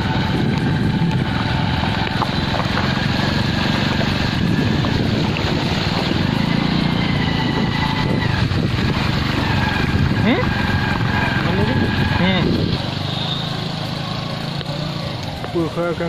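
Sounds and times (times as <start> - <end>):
wind buffeting microphone: 0.0 - 13.0
low motor drone: 0.0 - 16.0.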